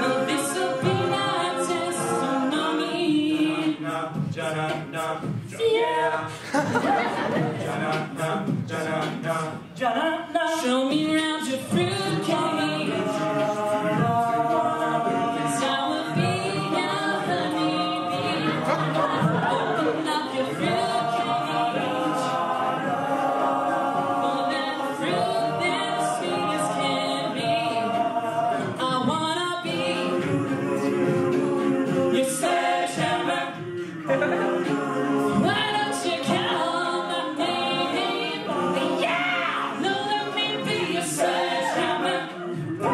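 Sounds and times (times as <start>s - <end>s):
male a cappella group singing: 0.0s - 42.9s.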